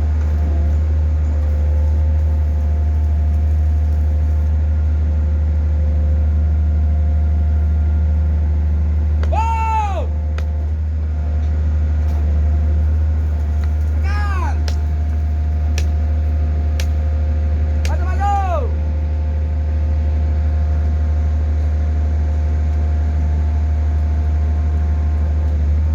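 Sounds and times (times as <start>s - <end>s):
engine droning: 0.0s - 25.9s.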